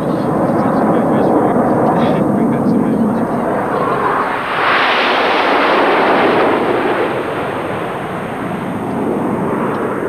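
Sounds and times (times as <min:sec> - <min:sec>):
jets flying low overhead: 0:00.0 - 0:10.0.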